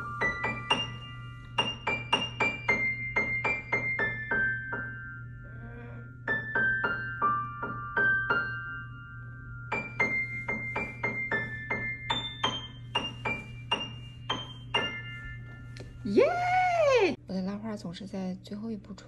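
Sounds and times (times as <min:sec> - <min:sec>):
piano simple halting melody: 0:00.0 - 0:17.2.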